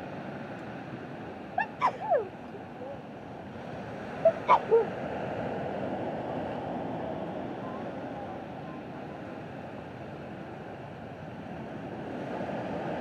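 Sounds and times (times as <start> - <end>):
sea surf washing on shore: 0.0 - 13.0.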